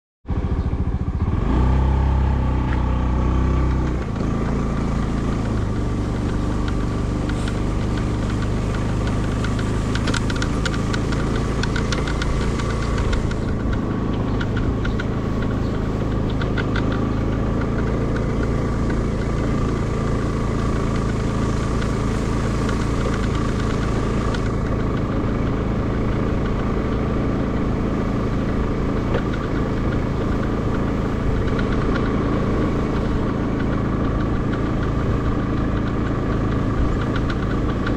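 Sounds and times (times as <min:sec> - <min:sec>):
small motorcycle engine running: 0:00.3 - 0:37.9
rapid clicking or rattling: 0:04.1 - 0:26.8, 0:29.0 - 0:37.9.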